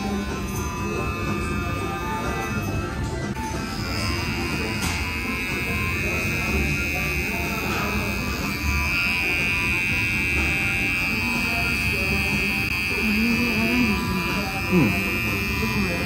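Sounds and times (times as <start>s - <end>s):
electric hair trimmer buzzing: 0.0s - 16.0s.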